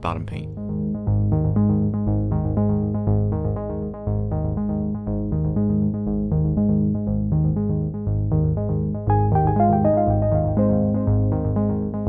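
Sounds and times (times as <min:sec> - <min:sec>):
synthesizer music with bass: 0:00.0 - 0:12.0.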